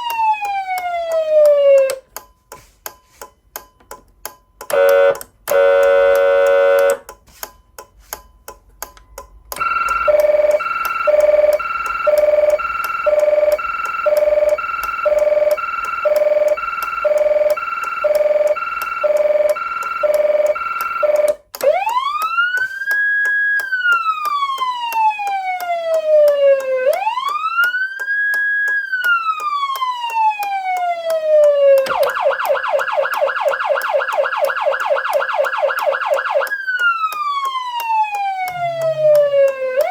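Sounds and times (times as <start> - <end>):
electronic siren cycling tones: 0.0 - 2.1, 9.6 - 39.9.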